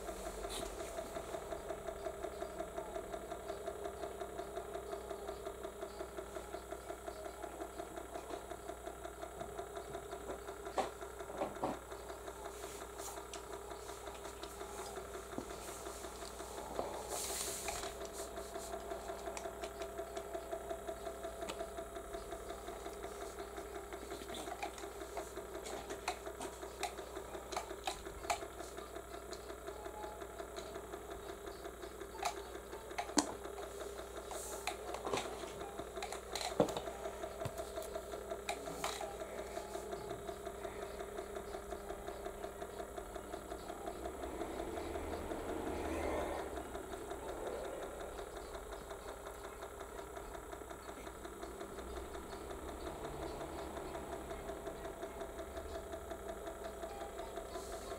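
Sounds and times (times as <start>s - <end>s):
small electric motor humming: 0.0s - 57.9s.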